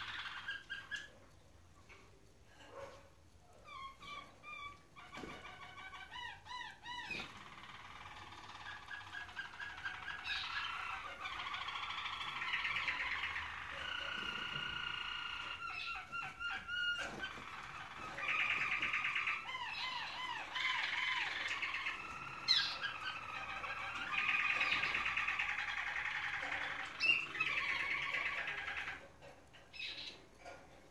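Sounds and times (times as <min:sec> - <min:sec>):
canary rolling trills: 0:00.0 - 0:30.9.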